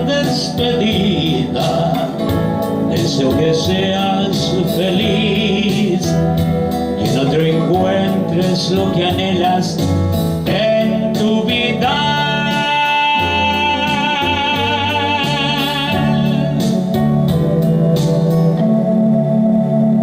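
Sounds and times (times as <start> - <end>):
person singing with vibrato: 0.0 - 17.2
guitar and bass: 0.0 - 20.0.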